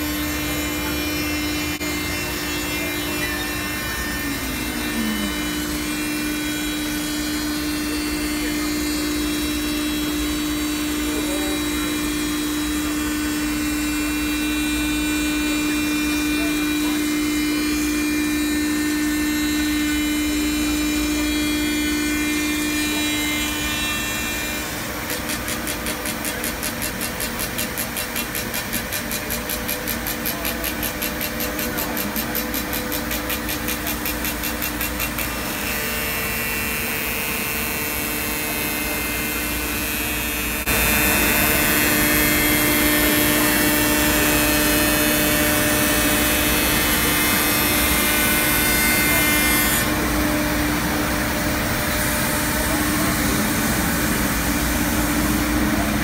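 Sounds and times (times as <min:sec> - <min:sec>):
cnc router cutting with high whine: 0:00.0 - 0:56.0.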